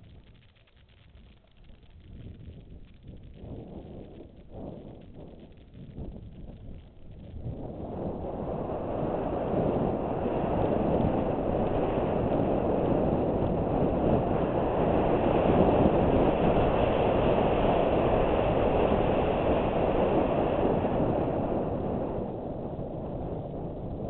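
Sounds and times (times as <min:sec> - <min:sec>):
bicycle tyres rolling on gravel: 0:00.0 - 0:24.0
wind rushing over camera: 0:00.0 - 0:24.0.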